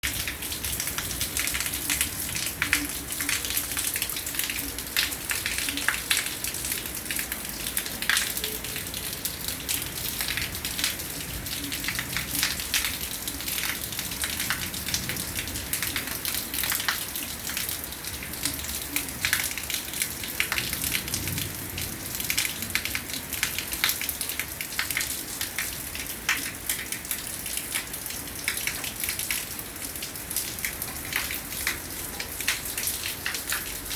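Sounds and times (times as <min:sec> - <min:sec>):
raindrops hitting close by: 0:00.0 - 0:33.9.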